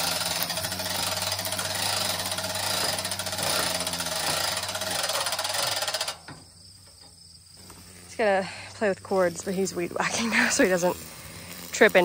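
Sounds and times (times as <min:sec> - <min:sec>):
string trimmer cutting grass: 0:00.0 - 0:06.4, 0:07.5 - 0:12.0.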